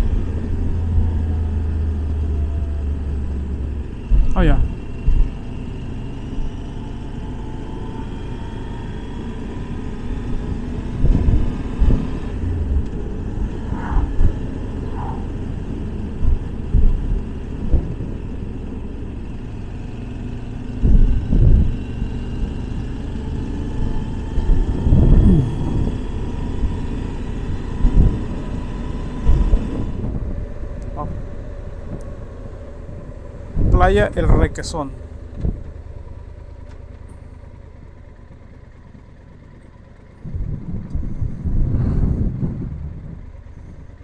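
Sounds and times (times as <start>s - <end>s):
wind buffeting microphone: 0.0s - 34.6s, 39.9s - 44.0s
motorcycle engine running: 0.0s - 44.0s
road and wind noise: 0.0s - 44.0s.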